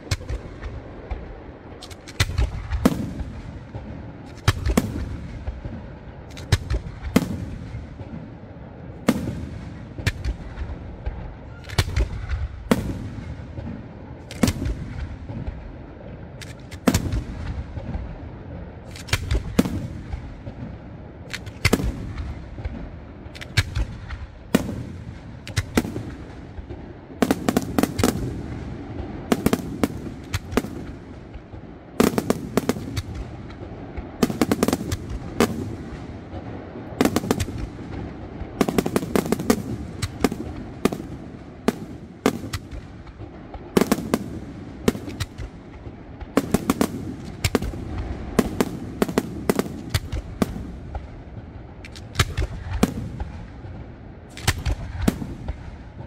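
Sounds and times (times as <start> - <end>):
fireworks bursting with sharp bangs: 0.0 - 56.0.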